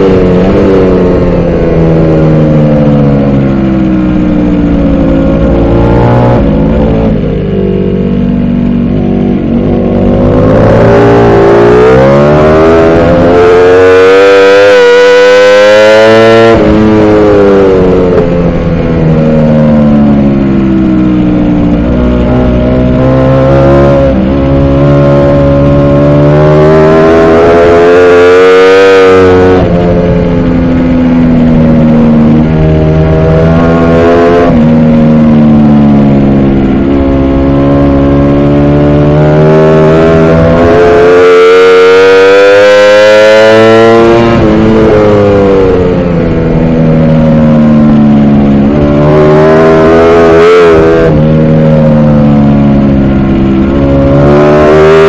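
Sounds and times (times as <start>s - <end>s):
motorcycle engine racing: 0.0s - 55.0s.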